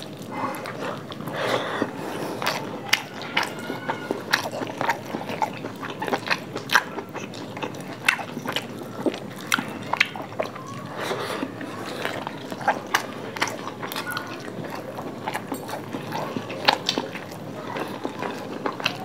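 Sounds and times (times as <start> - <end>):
chewing and lip-smacking: 0.0 - 19.0.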